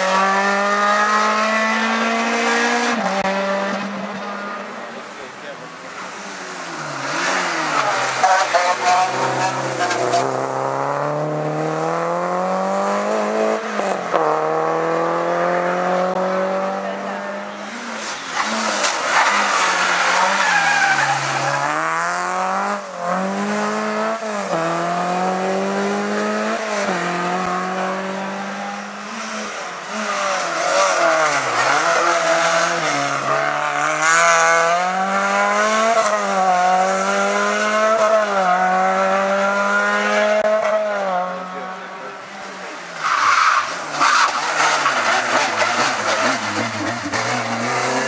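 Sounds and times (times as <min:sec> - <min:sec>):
race car engine revving through gears: 0:00.0 - 0:04.6, 0:05.9 - 0:48.0.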